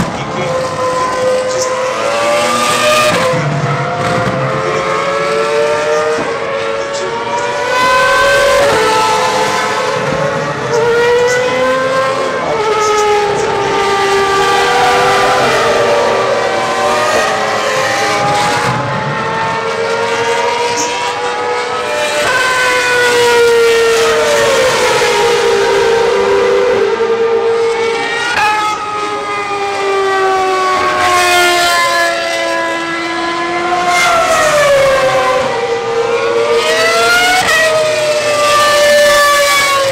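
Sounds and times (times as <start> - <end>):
racing car engine at high revs: 0.0 - 39.9.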